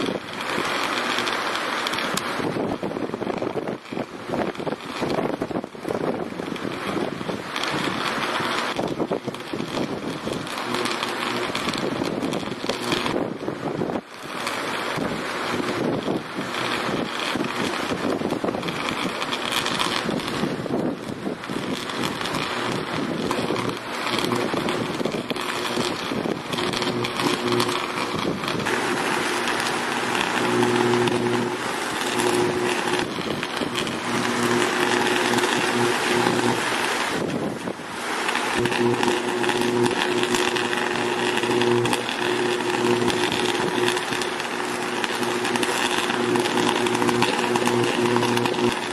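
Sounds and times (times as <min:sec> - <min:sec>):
electrical arc crackling hiss: 0:00.0 - 0:48.9.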